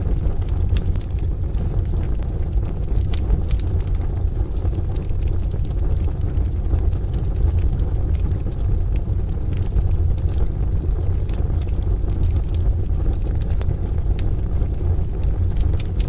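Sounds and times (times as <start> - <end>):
rain: 0.0 - 16.0
wood stove crackling: 0.0 - 16.0.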